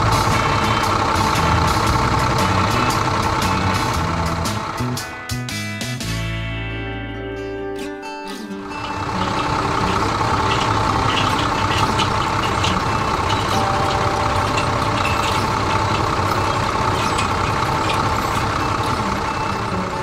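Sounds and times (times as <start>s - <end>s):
tractor engine running: 0.0s - 6.4s, 8.4s - 20.0s.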